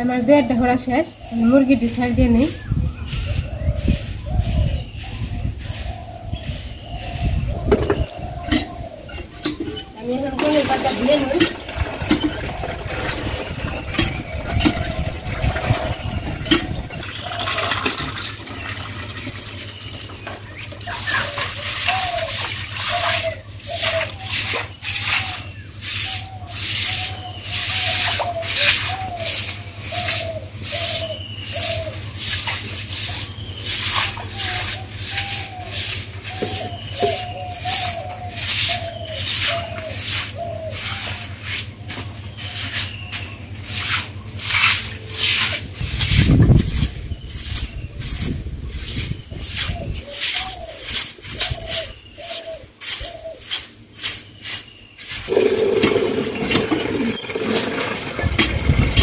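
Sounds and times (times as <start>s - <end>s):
rhythmic scraping strokes: 1.2s - 18.2s, 20.8s - 59.0s.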